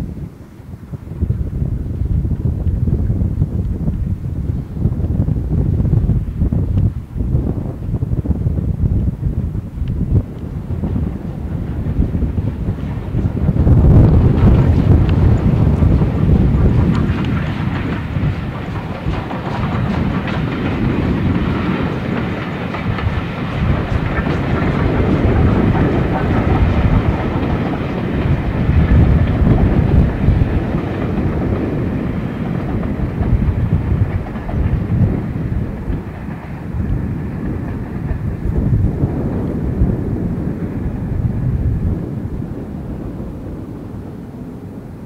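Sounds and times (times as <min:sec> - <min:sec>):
train wheels clattering on rails: 0:00.7 - 0:45.0.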